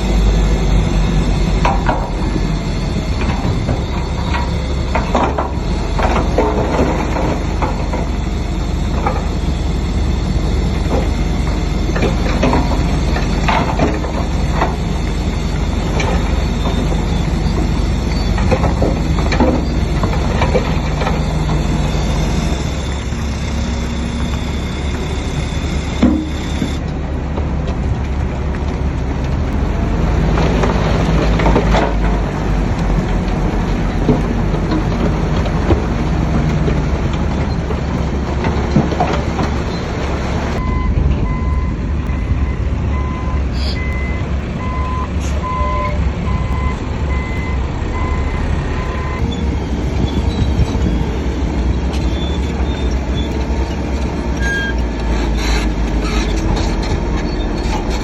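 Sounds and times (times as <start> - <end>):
diesel earthmoving machine running: 0.0 - 58.0
track knocks and clanks: 0.0 - 58.0.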